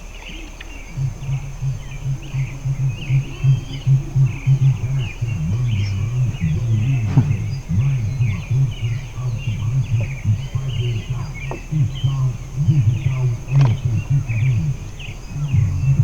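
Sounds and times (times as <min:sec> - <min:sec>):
low pulsing sound: 0:00.0 - 0:16.0
wild birds chirping: 0:00.0 - 0:16.0.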